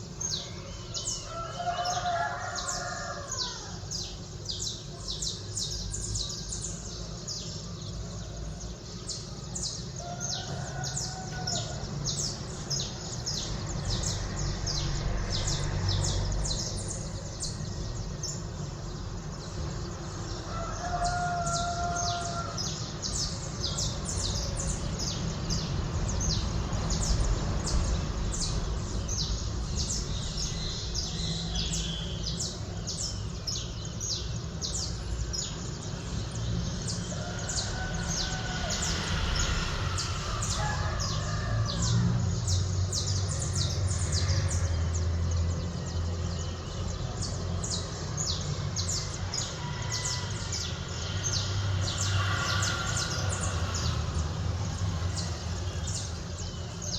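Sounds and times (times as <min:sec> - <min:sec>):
distant city traffic rumble: 0:00.0 - 0:56.9
small birds chirping: 0:00.0 - 0:56.9.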